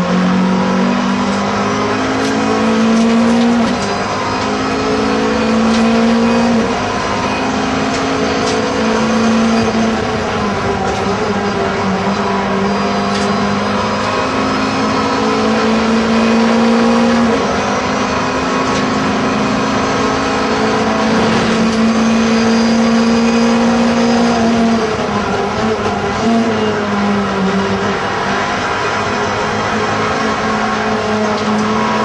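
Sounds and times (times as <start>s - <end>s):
race car engine at high revs: 0.0s - 32.0s.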